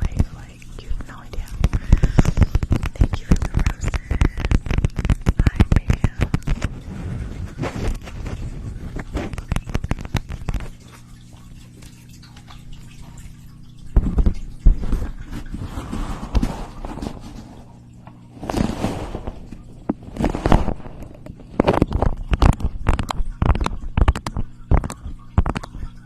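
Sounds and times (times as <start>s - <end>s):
crackling: 0.0s - 26.0s
steady low hum: 0.0s - 26.0s.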